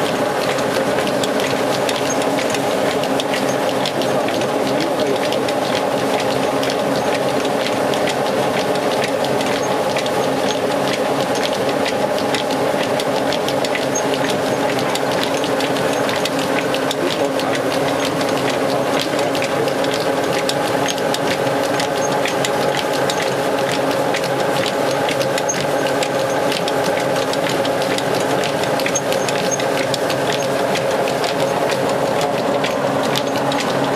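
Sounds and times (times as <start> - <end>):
rice mill humming and ticking: 0.0 - 33.9.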